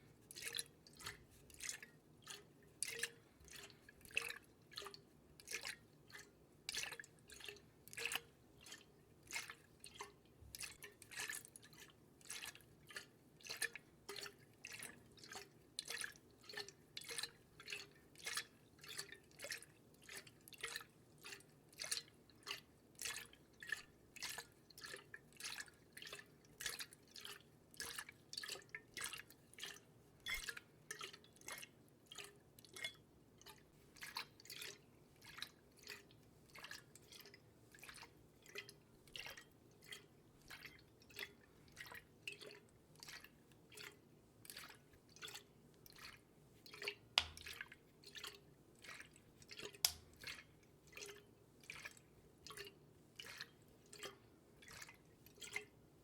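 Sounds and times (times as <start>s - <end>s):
water dripping: 0.3s - 55.7s.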